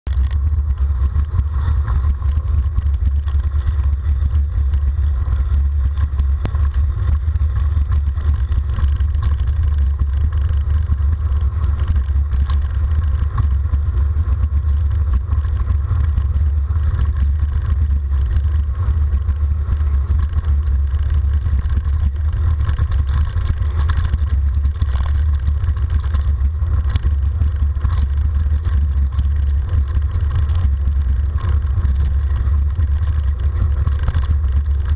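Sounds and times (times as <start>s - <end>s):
bike rattling: 0.1s - 34.9s.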